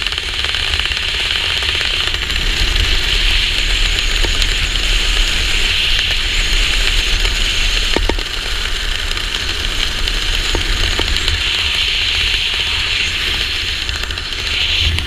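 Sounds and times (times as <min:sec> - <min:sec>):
wind rushing over camera: 0:00.0 - 0:15.0.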